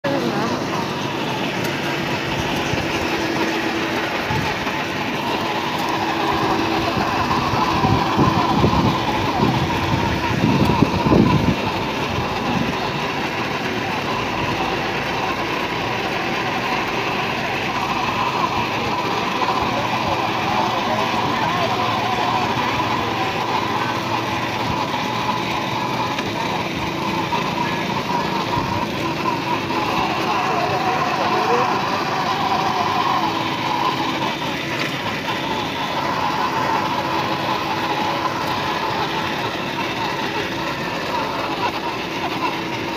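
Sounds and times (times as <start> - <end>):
toy quad bike motor whirring: 0.1 - 42.9.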